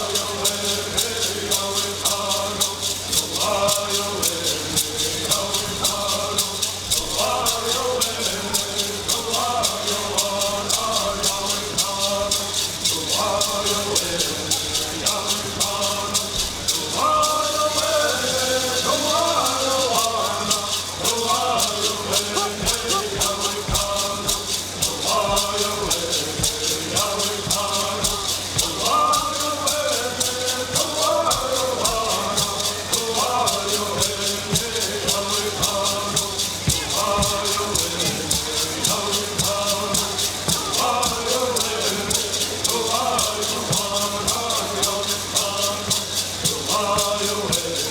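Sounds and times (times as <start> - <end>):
hand rattles shaking: 0.0 - 47.9
people chanting: 0.0 - 47.9.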